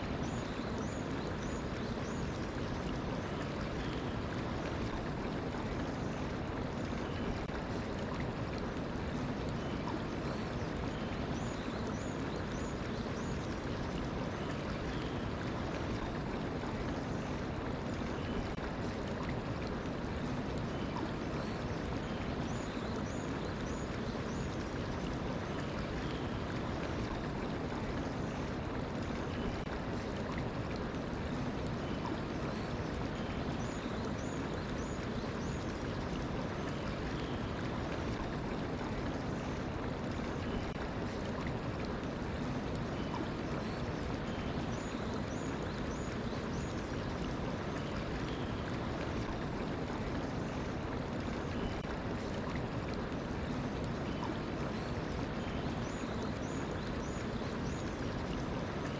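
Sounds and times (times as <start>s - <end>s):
mountain stream flowing: 0.0s - 58.9s.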